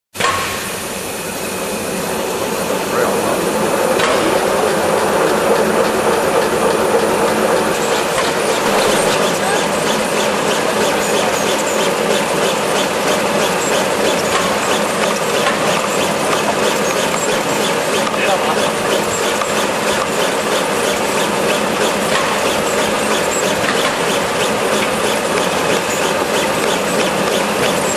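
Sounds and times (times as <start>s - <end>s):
machine mechanical clatter: 2.6s - 27.9s.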